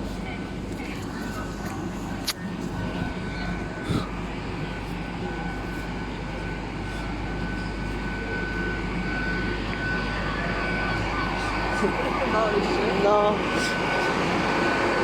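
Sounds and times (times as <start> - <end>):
high steady whine: 0.0 - 15.0
train engine and fan drone: 0.0 - 15.0.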